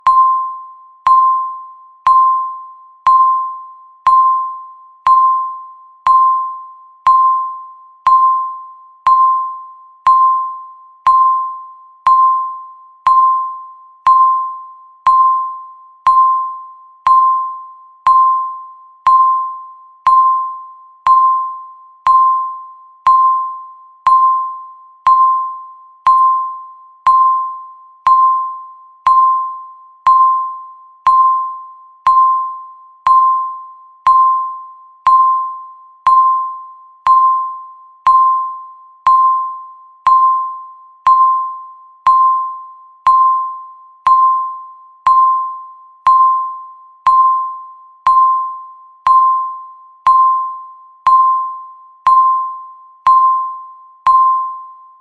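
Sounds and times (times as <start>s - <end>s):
timer beeping: 0.0s - 55.0s.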